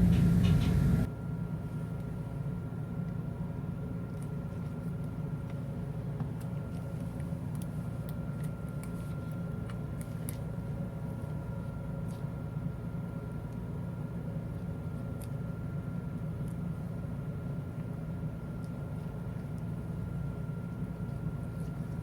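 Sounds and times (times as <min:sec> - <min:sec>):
low machinery hum: 0:00.0 - 0:22.0.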